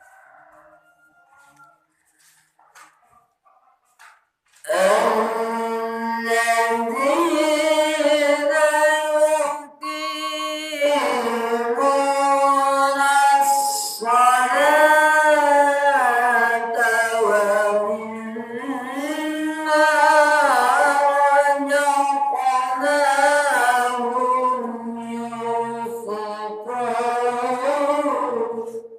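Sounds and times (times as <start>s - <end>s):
person singing melismatically: 4.6s - 28.9s.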